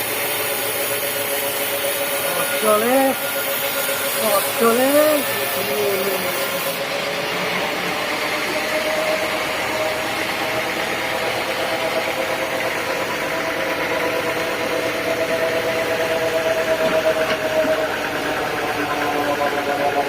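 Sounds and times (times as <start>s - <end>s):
sawmill saw running: 0.0s - 20.0s.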